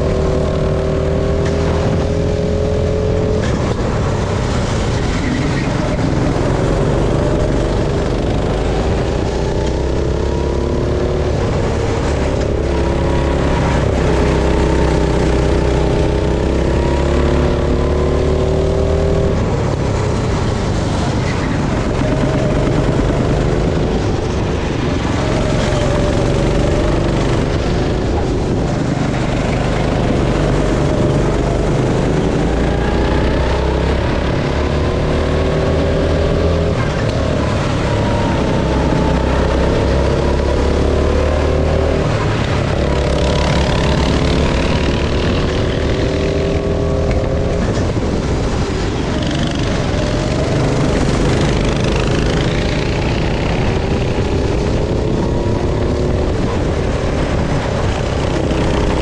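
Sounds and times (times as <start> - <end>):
go-kart engines revving: 0.0 - 59.0.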